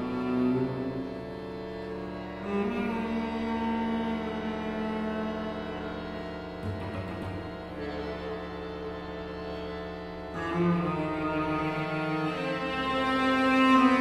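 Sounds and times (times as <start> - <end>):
cello and accordion chamber music: 0.0 - 14.0.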